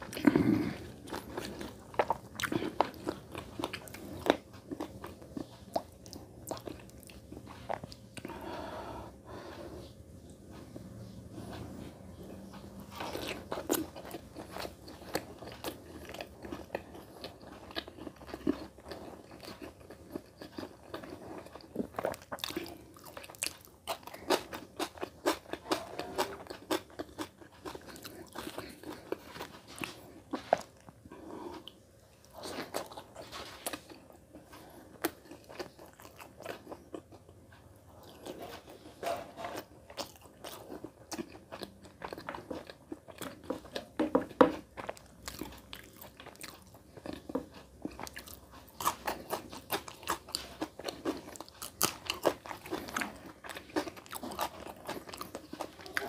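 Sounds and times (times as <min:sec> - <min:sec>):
chewing with crisp crunches: 0:00.0 - 0:56.0.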